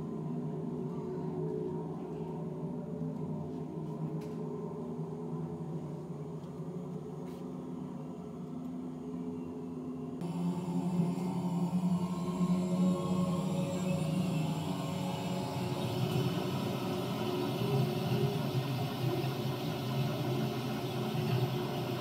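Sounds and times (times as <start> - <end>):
ambient drone music: 0.0 - 22.0.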